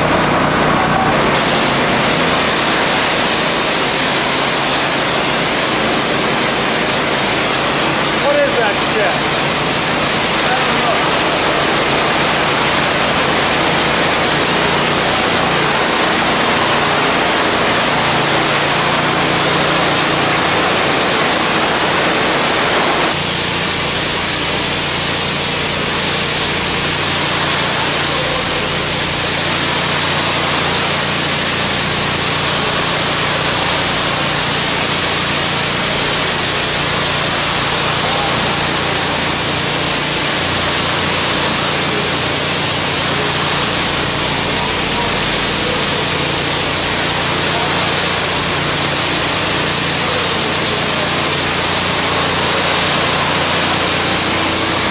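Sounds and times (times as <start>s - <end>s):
pressure washer spray hissing: 0.0s - 54.9s.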